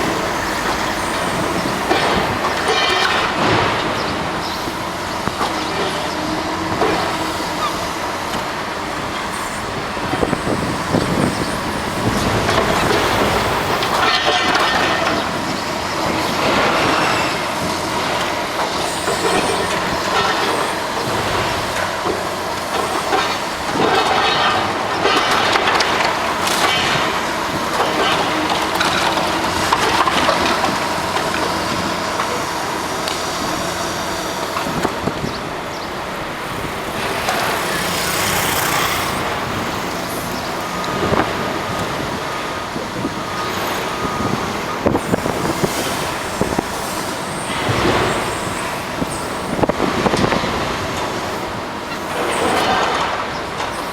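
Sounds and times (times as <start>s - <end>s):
demolition machinery clanking: 0.0s - 53.9s.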